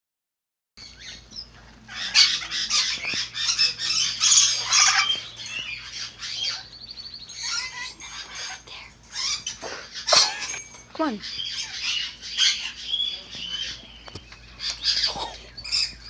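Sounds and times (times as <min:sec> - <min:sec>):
bird trill: 0:00.8 - 0:16.0
caged birds squawking and chirping: 0:00.8 - 0:16.0.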